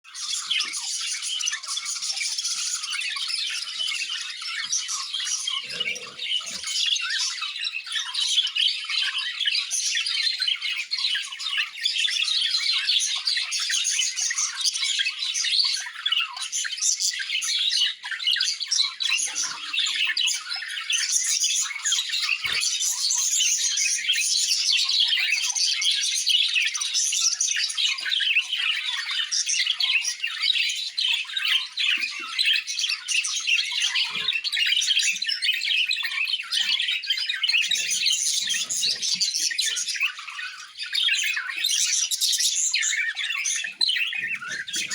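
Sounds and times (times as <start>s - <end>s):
budgerigars chirping: 0.2s - 44.9s.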